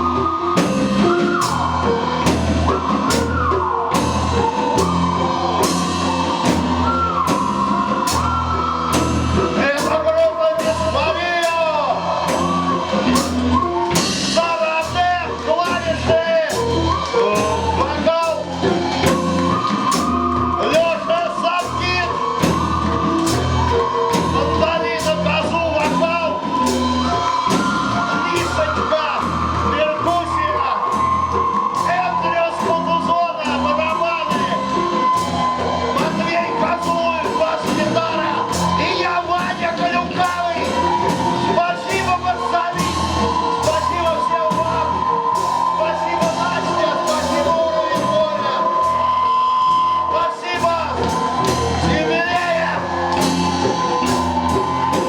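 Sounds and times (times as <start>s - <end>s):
bass guitar: 0.0s - 55.0s
drum kit beat: 0.0s - 55.0s
high sliding melodic line: 0.0s - 55.0s
rock band playing: 0.0s - 55.0s.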